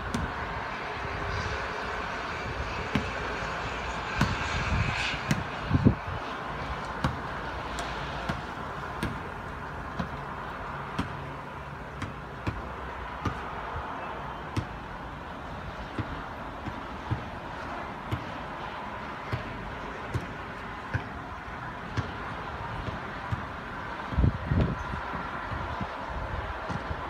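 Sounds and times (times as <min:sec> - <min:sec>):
low traffic hum: 0:00.0 - 0:27.0.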